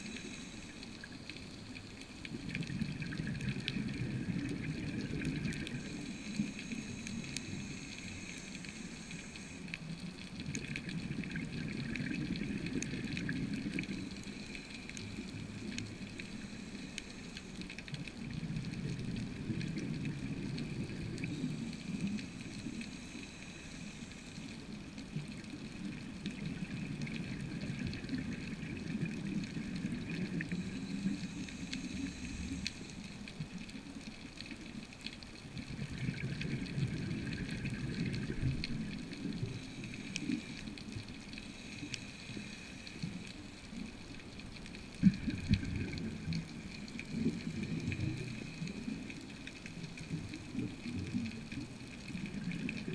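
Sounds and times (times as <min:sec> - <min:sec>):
faint clicks: 0:00.0 - 0:52.9
underwater gurgling rumble: 0:00.0 - 0:52.9.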